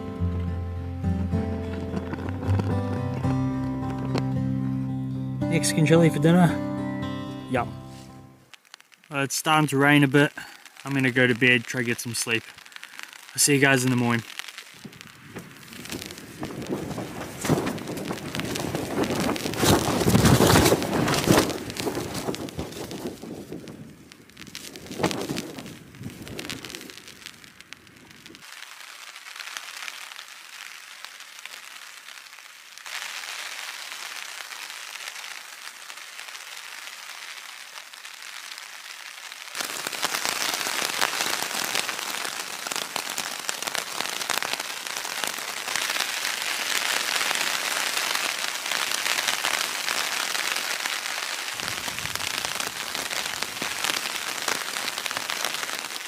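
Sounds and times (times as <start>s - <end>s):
rain pattering on a tarp: 1.1s - 4.4s, 8.4s - 56.0s.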